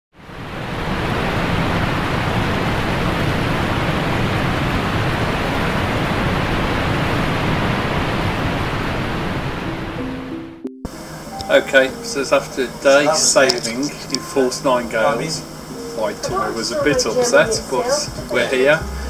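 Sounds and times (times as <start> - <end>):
waterfall rushing: 0.2 - 10.3, 10.9 - 19.0.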